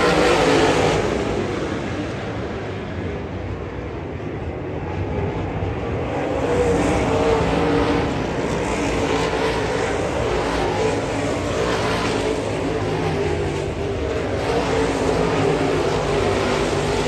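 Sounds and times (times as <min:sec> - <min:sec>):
race car engines running: 0:00.0 - 0:17.0.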